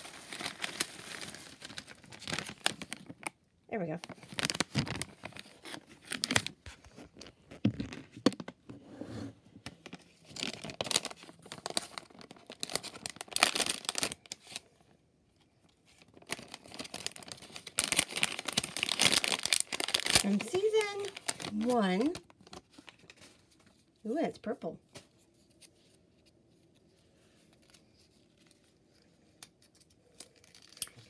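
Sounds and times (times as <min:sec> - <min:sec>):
packaging crinkling and tearing: 0:00.0 - 0:08.3, 0:09.8 - 0:14.8, 0:15.8 - 0:23.9, 0:25.0 - 0:31.0.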